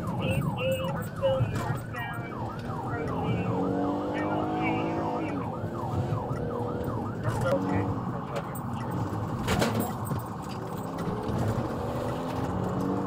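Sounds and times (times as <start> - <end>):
police siren yelping: 0.0 - 11.0.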